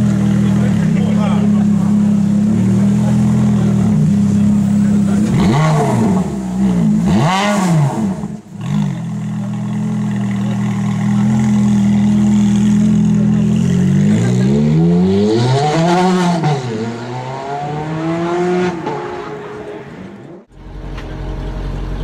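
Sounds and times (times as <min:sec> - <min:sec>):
sports car engine revving: 0:00.0 - 0:20.6.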